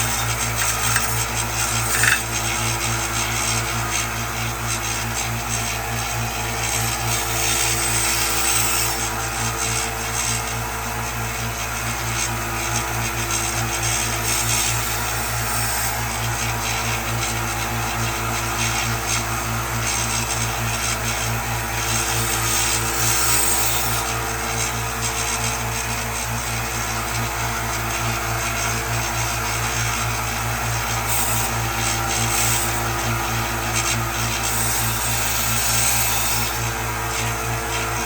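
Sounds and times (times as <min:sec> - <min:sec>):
electric grinder grinding: 0:00.0 - 0:09.6, 0:11.7 - 0:25.6, 0:27.9 - 0:38.0.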